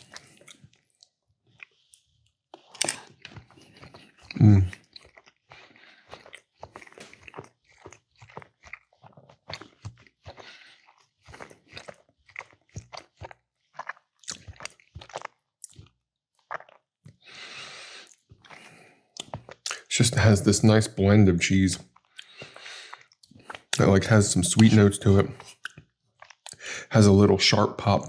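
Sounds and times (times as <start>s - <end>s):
close chewing with wet clicks: 0.0s - 17.2s, 18.0s - 19.9s, 21.8s - 26.6s.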